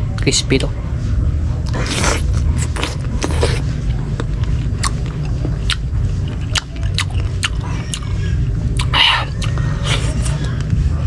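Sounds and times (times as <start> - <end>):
steady low hum: 0.0 - 11.0
crunchy chewing: 1.6 - 10.8.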